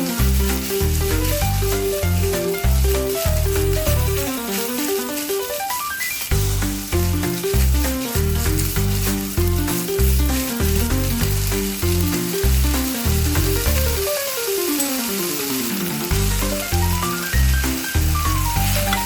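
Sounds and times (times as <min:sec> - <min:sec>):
background music with plucky melody: 0:00.0 - 0:19.0
food sizzling in a frying pan: 0:00.0 - 0:19.0.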